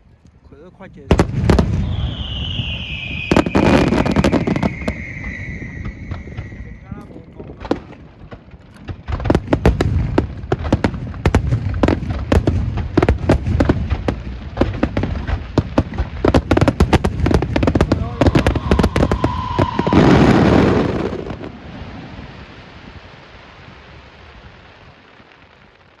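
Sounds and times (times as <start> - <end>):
fireworks bangs and cracks: 0.6 - 26.0
firework whistling: 1.1 - 25.5
loud firework burst: 1.1 - 26.0
rumble and crackle: 3.3 - 26.0.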